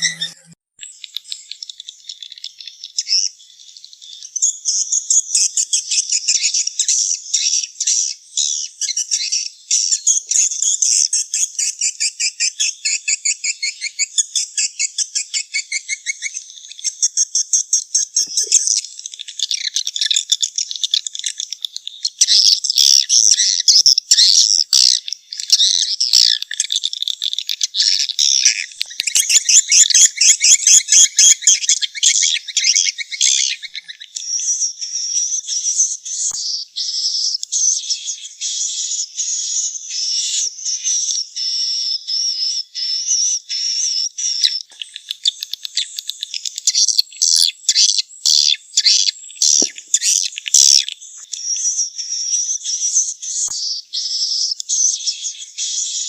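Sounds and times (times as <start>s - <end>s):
swiftlets twittering and chirping: 0.0s - 7.4s, 16.1s - 56.0s.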